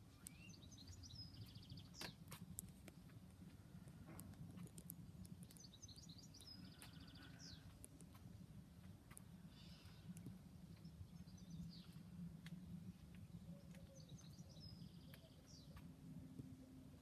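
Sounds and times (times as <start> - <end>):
low steady hum: 0.0 - 17.0
small birds chirping faintly: 0.0 - 17.0.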